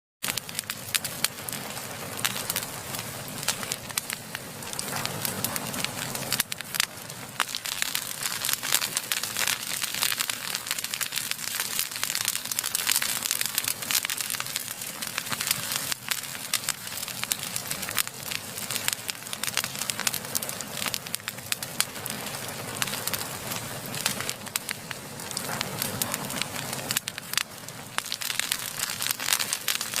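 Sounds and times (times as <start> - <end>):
fire crackling and popping: 0.2 - 30.0.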